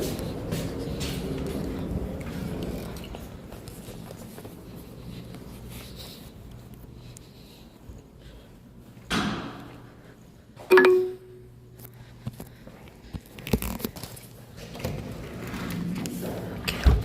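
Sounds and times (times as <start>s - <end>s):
footsteps: 0.0s - 14.6s.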